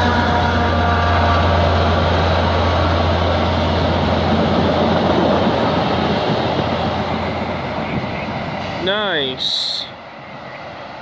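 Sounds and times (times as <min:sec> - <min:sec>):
diesel locomotive engine drone: 0:00.0 - 0:11.0
train coaches rumbling past: 0:00.0 - 0:11.0.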